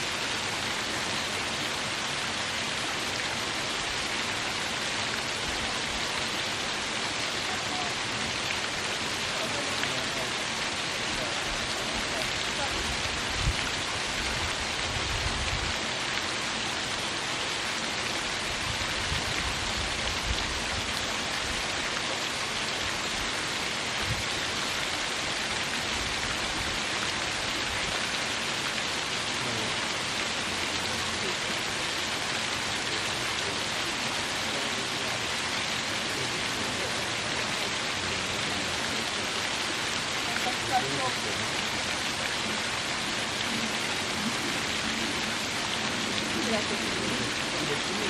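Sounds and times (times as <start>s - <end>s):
water pouring over rocks: 0.0s - 48.0s.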